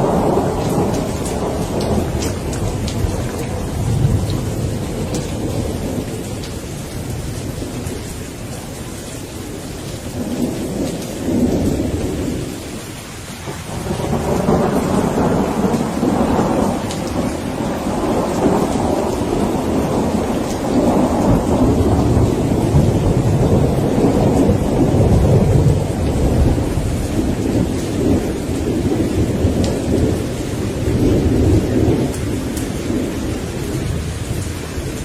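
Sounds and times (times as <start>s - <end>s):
low rolling thunder: 0.0s - 35.0s
rain falling: 0.0s - 35.0s.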